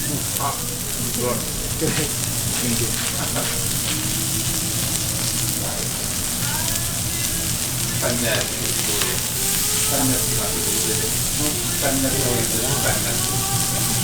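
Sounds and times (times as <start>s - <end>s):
food sizzling on a griddle: 0.0s - 14.0s.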